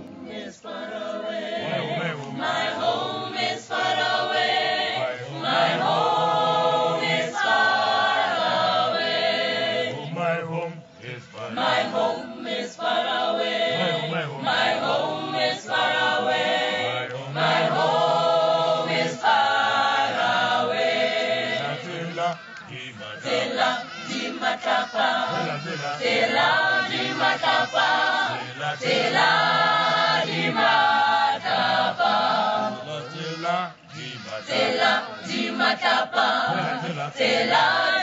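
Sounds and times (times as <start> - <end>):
mixed choir singing a cappella: 0.0 - 38.0.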